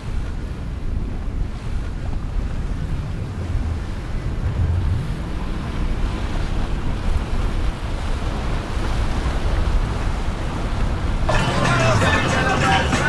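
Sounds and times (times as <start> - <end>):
wind buffeting microphone: 0.0 - 11.3
boat engine drone: 0.0 - 13.0
rushing water: 0.0 - 13.0.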